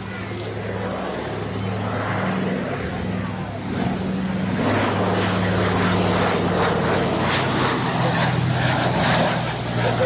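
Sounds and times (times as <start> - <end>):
propeller aircraft engines droning: 0.0 - 10.0.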